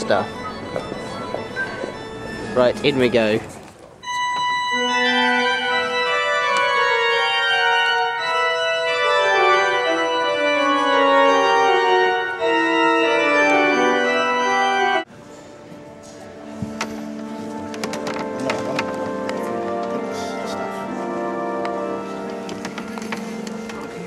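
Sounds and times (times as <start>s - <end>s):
pipe organ chords: 0.0s - 24.0s.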